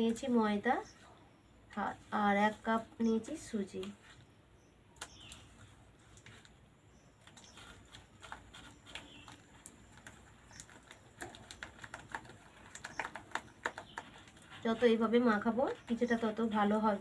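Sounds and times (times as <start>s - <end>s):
dough kneaded in steel bowl: 0.0s - 4.4s, 5.0s - 17.0s.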